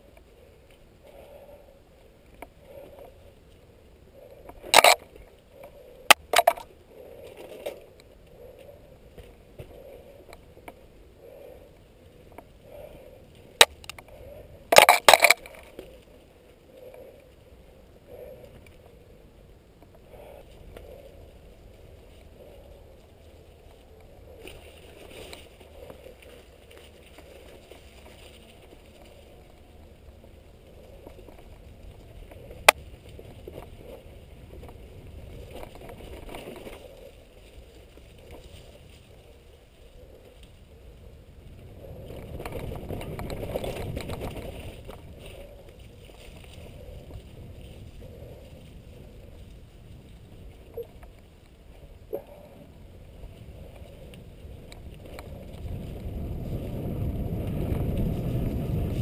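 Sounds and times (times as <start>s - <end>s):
bike tyres rolling on dirt: 0.0s - 59.0s.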